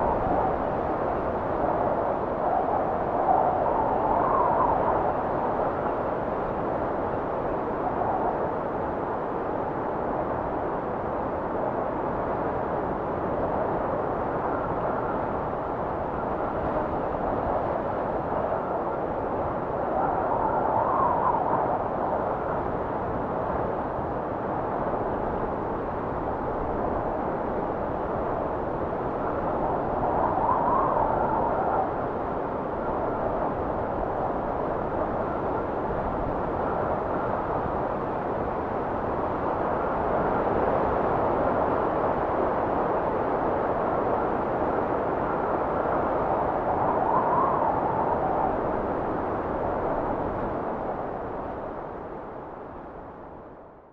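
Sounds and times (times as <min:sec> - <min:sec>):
wind blowing steadily: 0:00.0 - 0:53.9.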